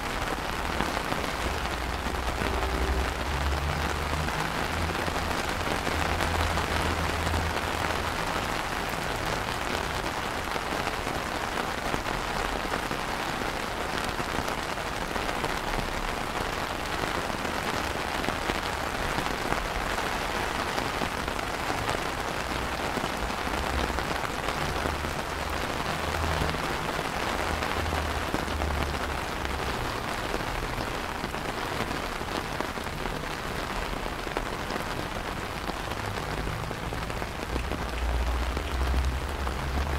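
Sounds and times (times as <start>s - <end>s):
rain on wet paving: 0.0s - 39.9s.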